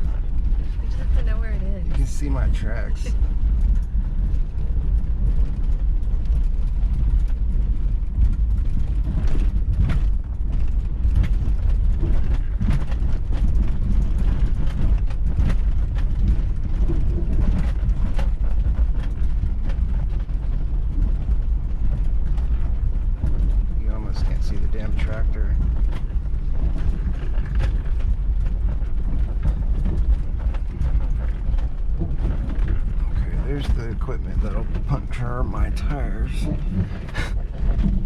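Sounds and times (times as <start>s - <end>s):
engine and tyres rumbling: 0.0s - 38.0s.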